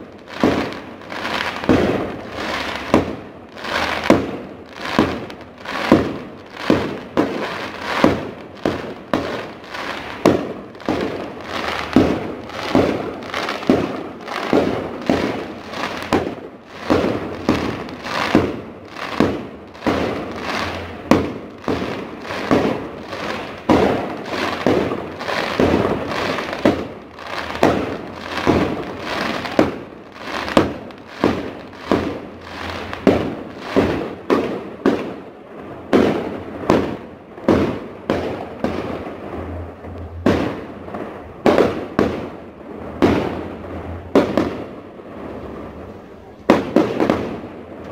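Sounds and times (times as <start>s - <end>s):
fireworks bangs with crackling: 0.0s - 47.9s.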